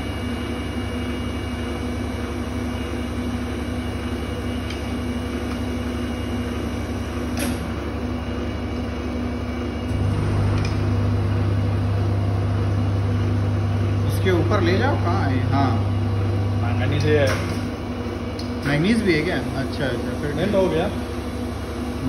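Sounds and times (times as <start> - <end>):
electrical hum of furnace equipment: 0.0 - 22.0.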